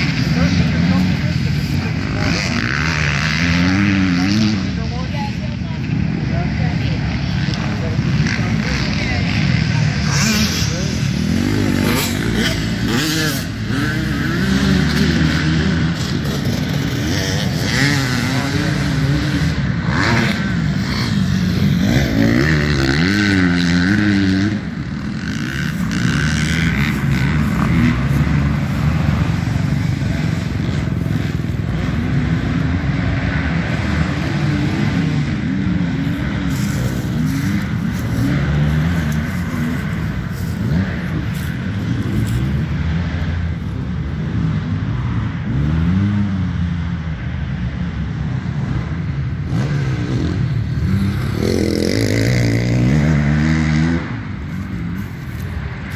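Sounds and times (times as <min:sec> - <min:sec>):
dirt bike engine revving: 0:00.0 - 0:05.0, 0:06.1 - 0:43.4, 0:48.6 - 0:55.9.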